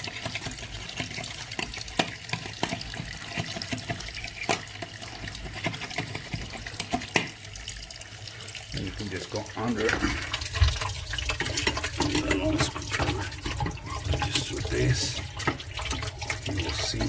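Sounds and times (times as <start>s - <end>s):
faucet running into basin: 0.0s - 17.0s.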